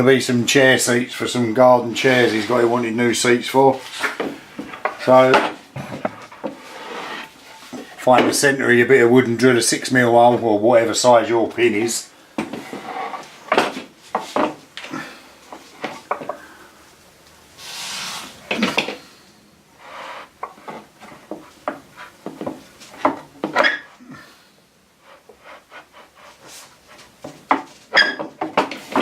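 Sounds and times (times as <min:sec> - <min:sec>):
wood scraping: 0:00.0 - 0:16.5, 0:19.8 - 0:23.9, 0:25.0 - 0:29.0.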